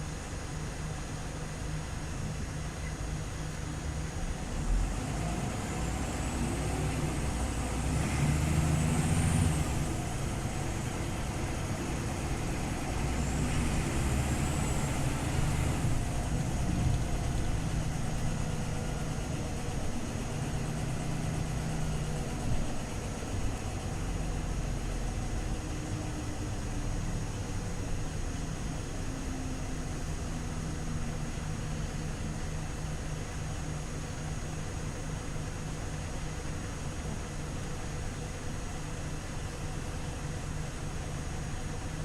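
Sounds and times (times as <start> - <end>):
bus diesel engine running: 0.0 - 42.0.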